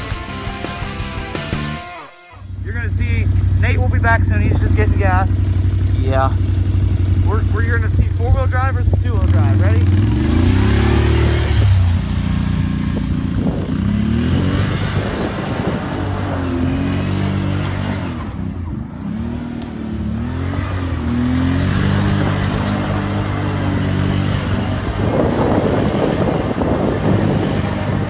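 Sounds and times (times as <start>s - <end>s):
quad bike engine revving: 0.0s - 28.0s.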